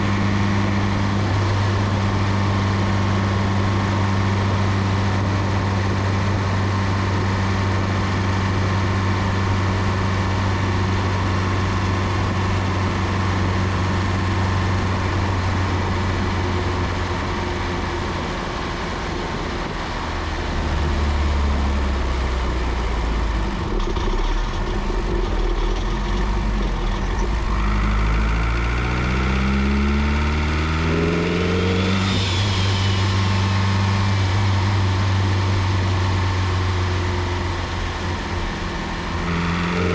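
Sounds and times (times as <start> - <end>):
high turbo whine: 0.0 - 39.9
turbocharged car engine running: 0.0 - 39.9.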